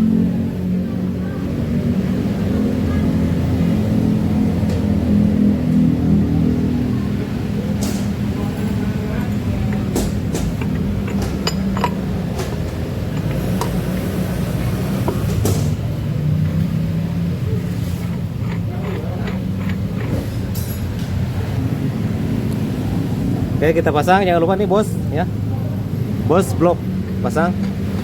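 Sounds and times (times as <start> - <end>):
low mechanical hum: 0.8 - 23.6.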